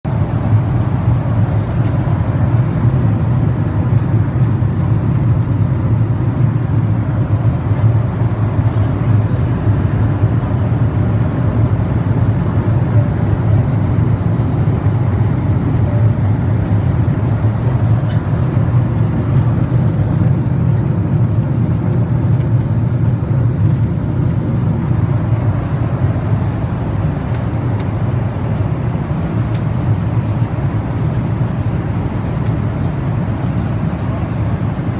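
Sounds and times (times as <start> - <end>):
airliner engine drone: 0.1 - 34.9.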